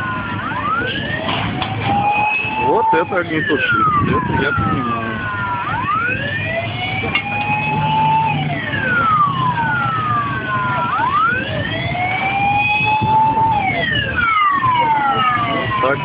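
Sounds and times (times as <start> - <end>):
fire engine siren wailing: 0.0 - 16.0
low traffic rumble: 0.0 - 16.0.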